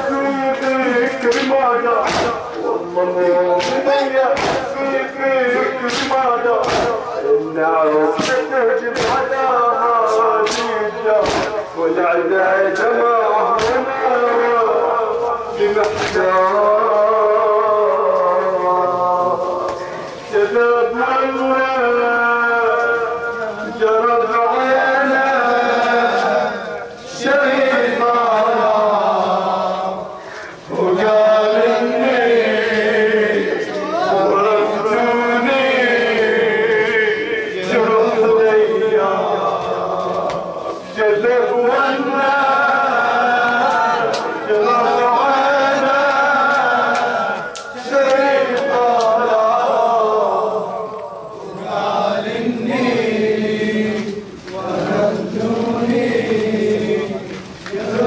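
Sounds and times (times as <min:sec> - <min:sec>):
man chanting into microphone: 0:00.0 - 0:58.0.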